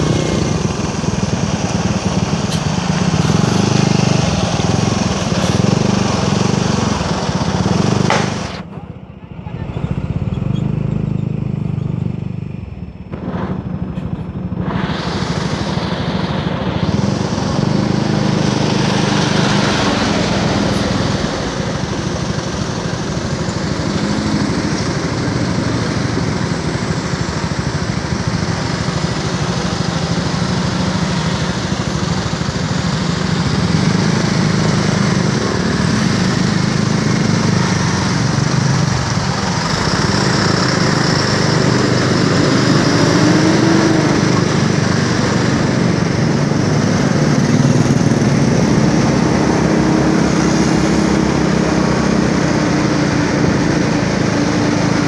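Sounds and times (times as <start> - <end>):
vehicle engines running loudly: 0.0 - 55.0.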